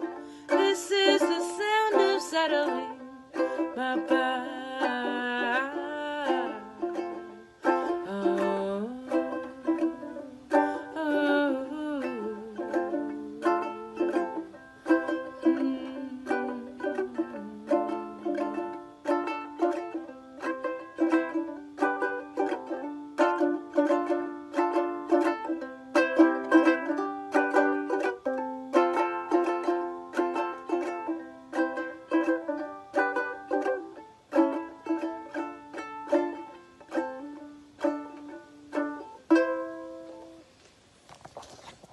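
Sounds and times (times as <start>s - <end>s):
plucked string instrument: 0.0s - 41.9s.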